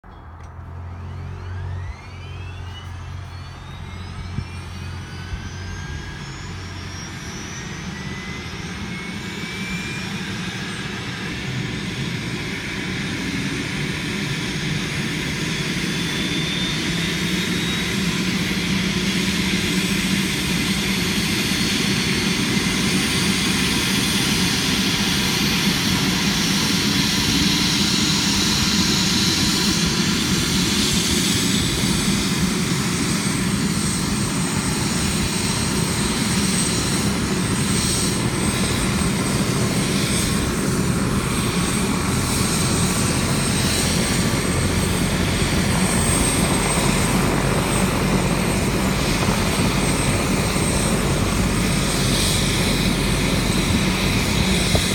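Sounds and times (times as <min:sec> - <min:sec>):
helicopter turbine whine: 0:00.0 - 0:54.9
helicopter rotor beat: 0:00.1 - 0:54.9.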